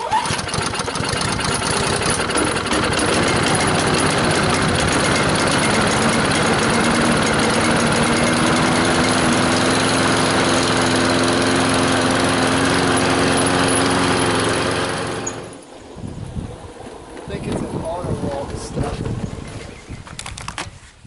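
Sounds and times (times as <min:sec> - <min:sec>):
lawn mower engine running: 0:00.0 - 0:19.4.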